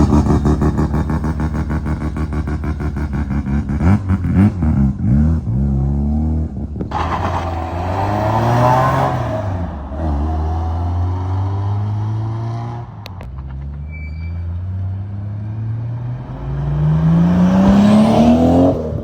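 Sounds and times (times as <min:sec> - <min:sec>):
car engine with throttle blips: 0:00.0 - 0:19.0.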